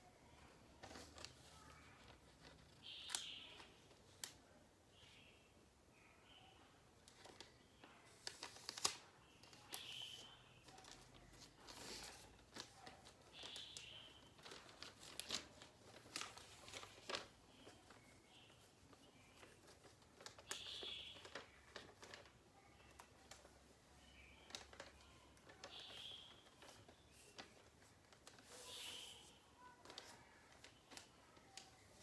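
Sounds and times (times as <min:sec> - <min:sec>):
paper crinkling and rustling: 0:00.4 - 0:04.5, 0:07.0 - 0:32.0.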